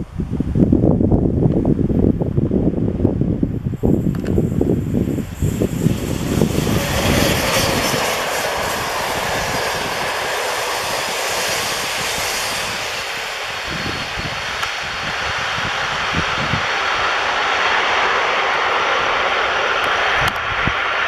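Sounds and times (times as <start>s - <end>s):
wind buffeting microphone: 0.0s - 21.0s
train passing on rails: 2.9s - 21.0s.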